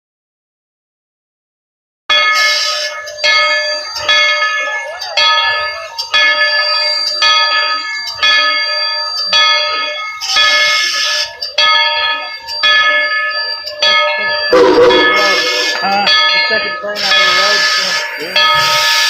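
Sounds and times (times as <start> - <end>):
locomotive bell ringing: 2.1 - 19.0.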